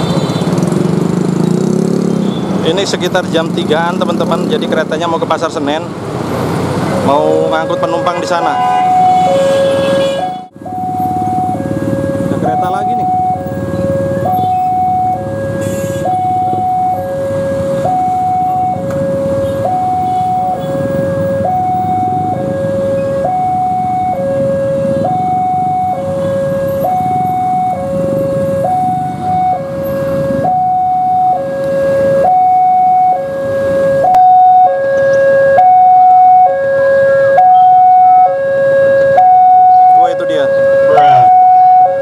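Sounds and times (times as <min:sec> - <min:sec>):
vehicle engines rumbling: 0:00.0 - 0:42.0
level crossing two-tone alarm: 0:07.1 - 0:42.0.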